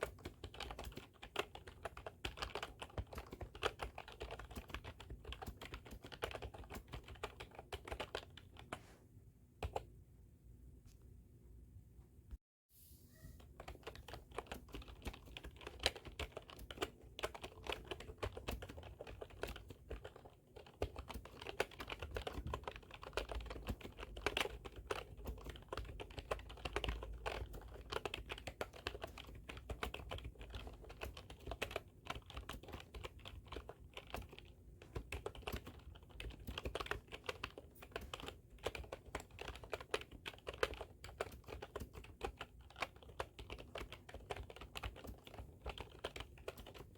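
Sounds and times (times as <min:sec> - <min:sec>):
computer keyboard typing: 0:00.0 - 0:08.8, 0:09.6 - 0:09.9, 0:13.6 - 0:46.9.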